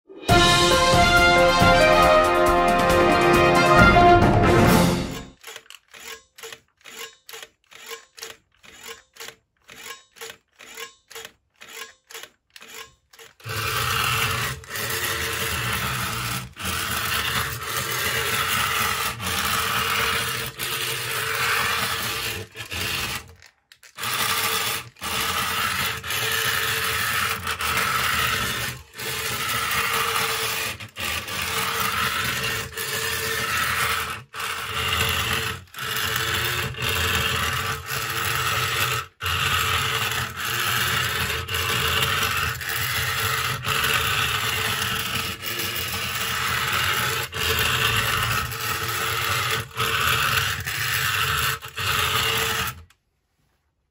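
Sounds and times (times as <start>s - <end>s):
toy car motor whirring: 4.7s - 53.0s.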